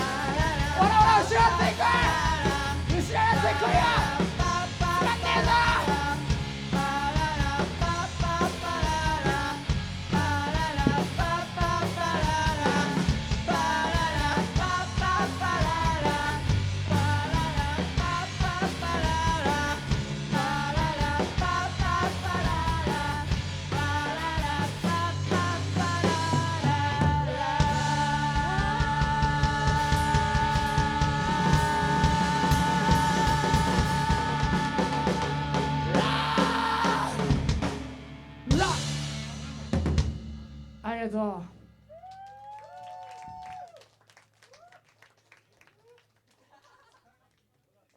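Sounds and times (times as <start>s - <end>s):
drums: 0.0s - 43.7s
bass: 0.0s - 44.0s.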